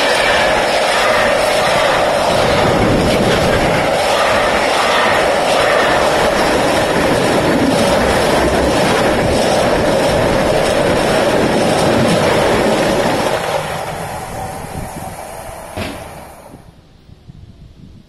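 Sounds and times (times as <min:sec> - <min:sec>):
train wheels on rail: 0:00.0 - 0:17.1.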